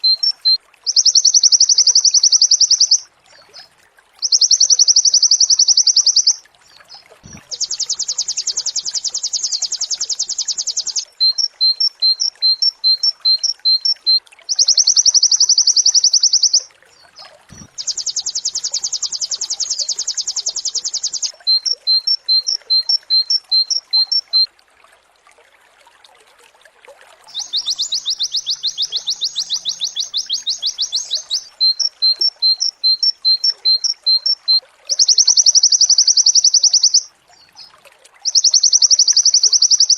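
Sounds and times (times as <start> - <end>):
bird singing buzzy trills and chirps: 0.0 - 24.5, 27.3 - 39.9.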